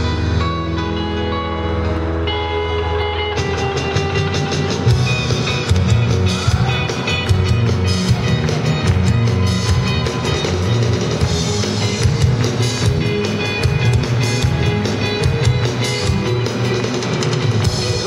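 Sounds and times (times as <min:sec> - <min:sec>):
electric bass: 0:00.0 - 0:18.0
electric guitars: 0:00.0 - 0:18.0
keyboard chords: 0:00.0 - 0:18.0.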